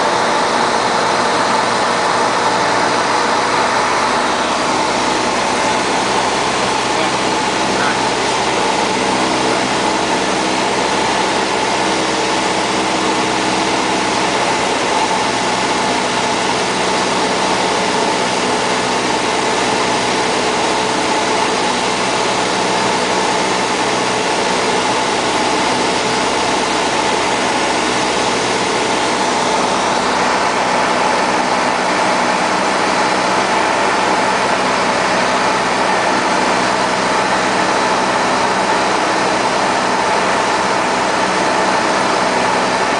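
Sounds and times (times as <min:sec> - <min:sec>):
propeller plane engine drone: 0:00.0 - 0:42.9.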